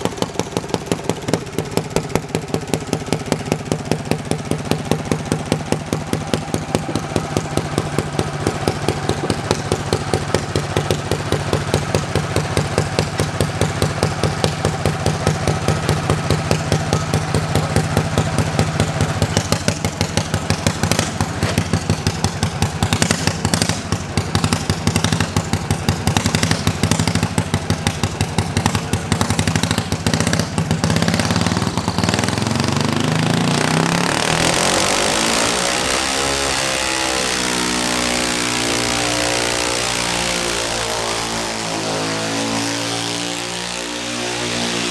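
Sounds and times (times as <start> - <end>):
garden tractor engine running: 0.0 - 44.9.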